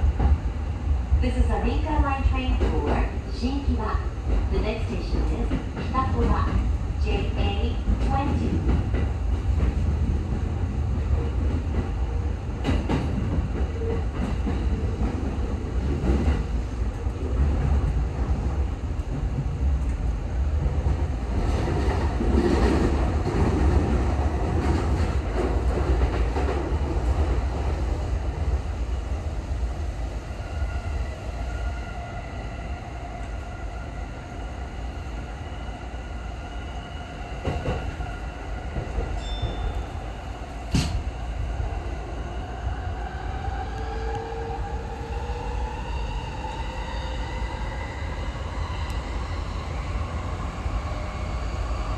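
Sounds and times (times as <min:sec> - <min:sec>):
train low rumble: 0:00.0 - 0:51.9.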